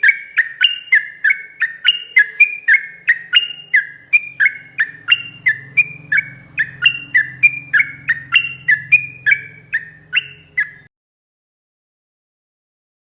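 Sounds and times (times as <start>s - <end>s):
bird singing liquid notes: 0.0s - 10.9s.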